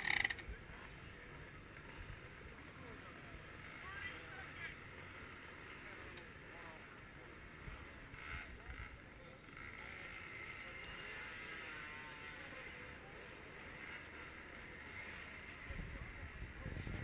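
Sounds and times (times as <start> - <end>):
faint motorcycle engines droning: 0.0 - 17.0.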